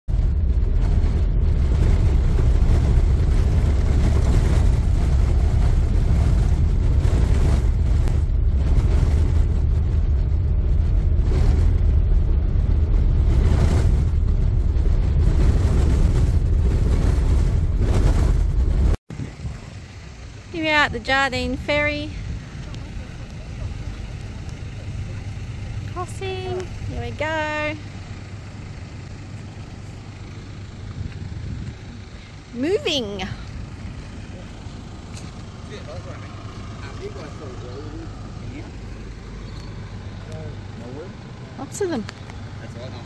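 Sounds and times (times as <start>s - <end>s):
vehicle rumble and road noise: 0.0s - 43.0s.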